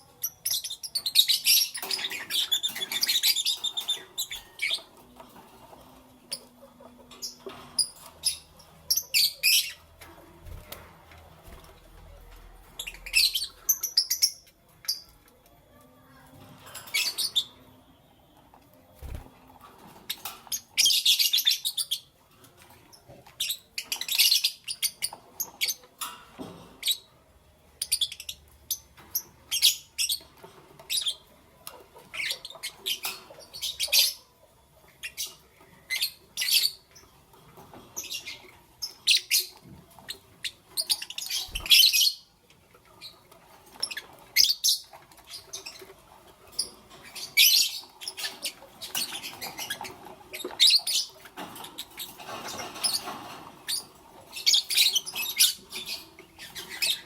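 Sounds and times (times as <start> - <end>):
lovebirds chirping: 0.0 - 15.3, 16.1 - 22.2, 27.8 - 57.0.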